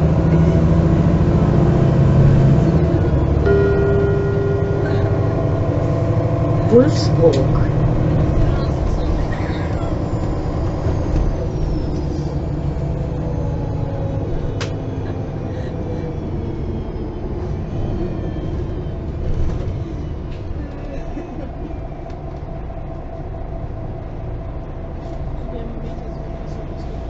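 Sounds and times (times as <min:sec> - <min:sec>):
bus engine running: 0:00.0 - 0:27.0
faint falling whines: 0:02.2 - 0:24.7.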